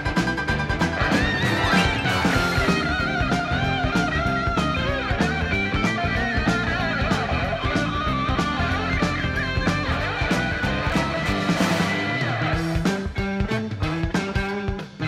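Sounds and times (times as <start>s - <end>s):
rock guitar melody: 0.0s - 15.0s
steady drum beat: 0.0s - 15.0s.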